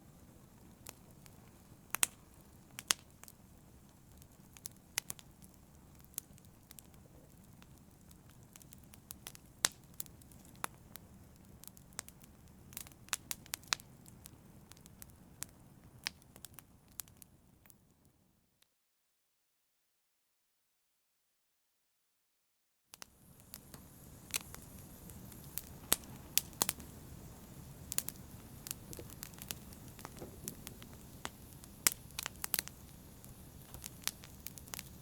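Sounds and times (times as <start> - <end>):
fire crackling: 0.0 - 17.8, 23.0 - 35.0.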